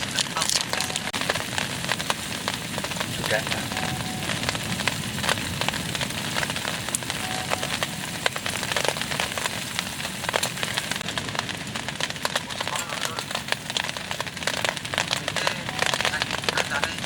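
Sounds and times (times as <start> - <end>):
heavy rain on a shelter: 0.0 - 17.0.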